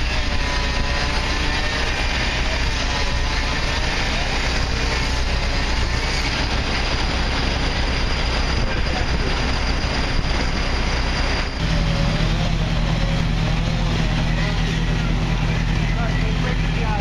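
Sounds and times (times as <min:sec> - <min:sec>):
continuous rush of noise: 0:00.0 - 0:17.0
diesel engines running: 0:00.0 - 0:17.0.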